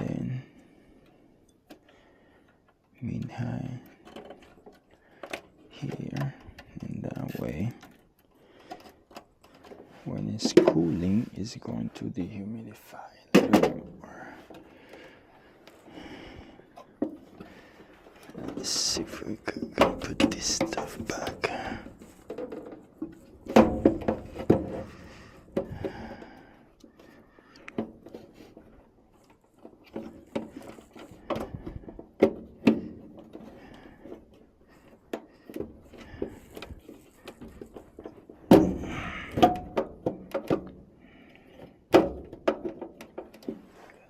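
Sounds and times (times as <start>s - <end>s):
parts knocking and clunking: 0.0s - 44.0s.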